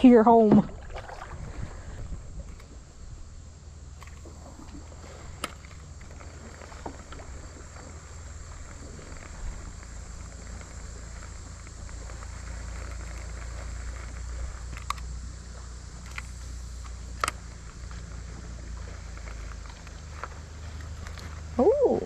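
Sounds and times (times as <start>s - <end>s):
kayak movement and water: 0.0s - 22.0s
steady low rumble: 0.0s - 22.0s.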